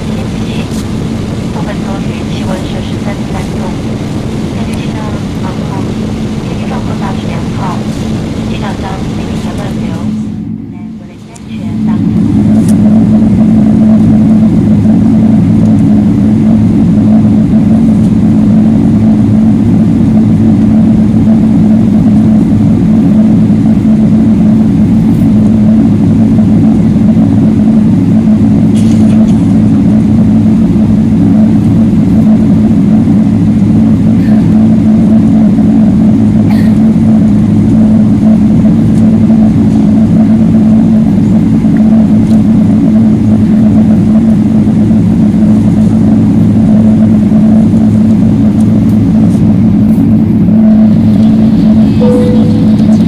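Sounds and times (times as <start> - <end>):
airplane cabin engine drone: 0.0 - 53.0.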